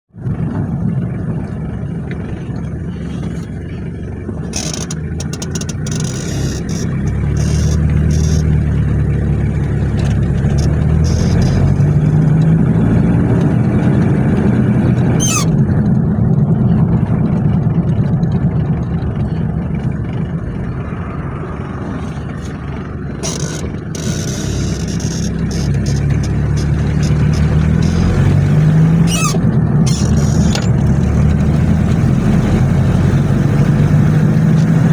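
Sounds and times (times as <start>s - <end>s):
diesel engine clattering: 0.1s - 34.9s.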